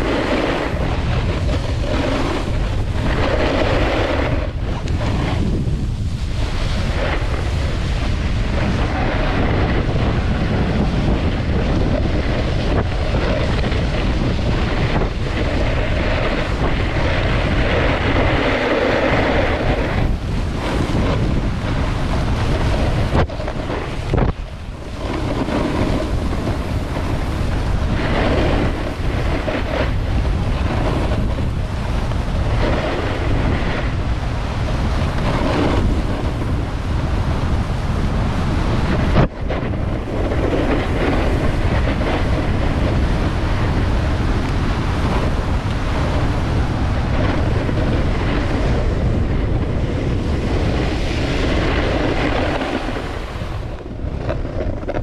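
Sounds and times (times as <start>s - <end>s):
snowboard scraping on snow: 0.0s - 55.0s
wind buffeting microphone: 0.0s - 55.0s.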